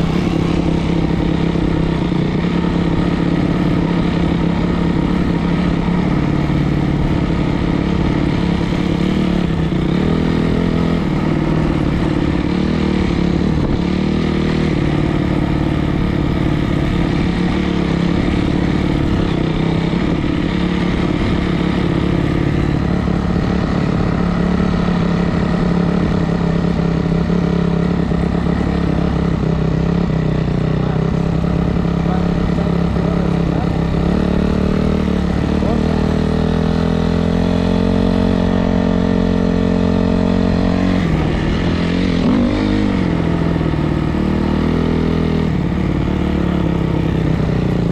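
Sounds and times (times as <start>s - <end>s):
dirt bike engine idling: 0.0s - 36.3s, 38.2s - 44.8s, 45.4s - 47.9s.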